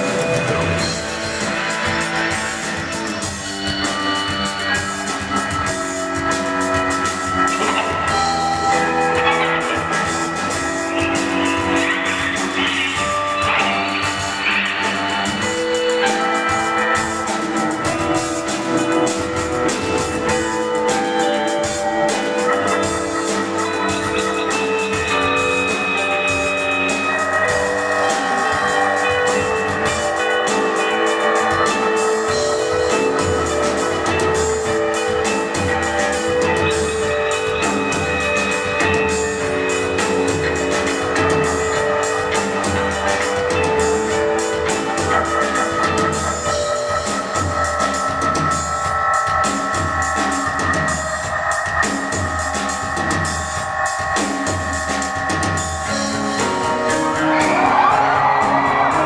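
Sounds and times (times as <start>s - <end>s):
live post-rock band playing: 0.0s - 59.0s.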